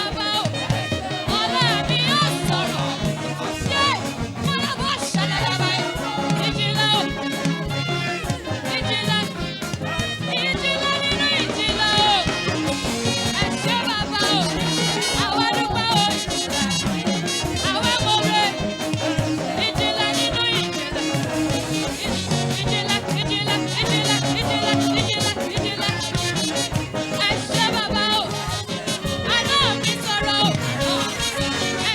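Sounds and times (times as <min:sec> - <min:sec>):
steady drum beat: 0:00.0 - 0:31.9
voices singing worship music: 0:00.0 - 0:31.9.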